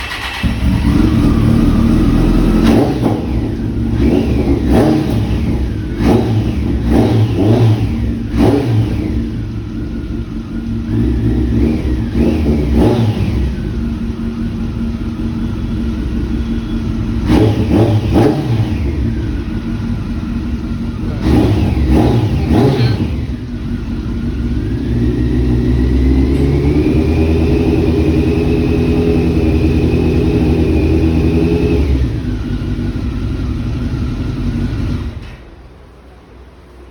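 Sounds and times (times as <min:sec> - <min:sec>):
motorcycle engine revving: 0:00.0 - 0:35.4.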